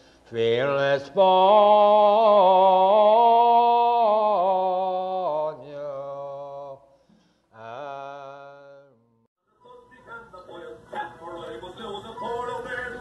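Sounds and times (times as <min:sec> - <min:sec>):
man singing unaccompanied: 0:00.3 - 0:06.8, 0:07.6 - 0:09.0, 0:09.6 - 0:13.0.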